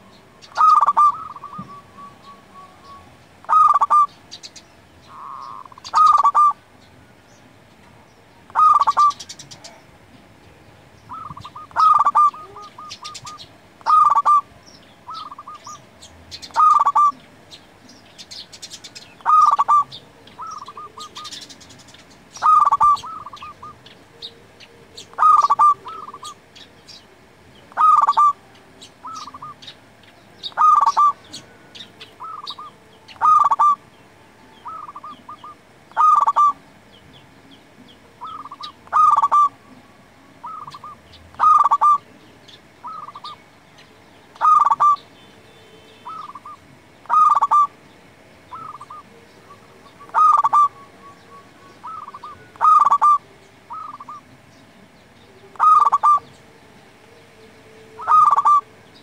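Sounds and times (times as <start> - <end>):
dove cooing: 0.0 - 6.7, 8.4 - 9.9, 11.1 - 17.6, 18.4 - 33.9, 34.5 - 36.7, 37.6 - 42.1, 42.8 - 43.4, 44.3 - 45.1, 46.0 - 47.8, 48.5 - 54.5, 55.3 - 59.0.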